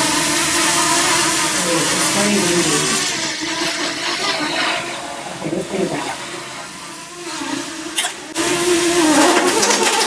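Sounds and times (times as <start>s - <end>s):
drone propellers buzzing: 0.0s - 10.0s.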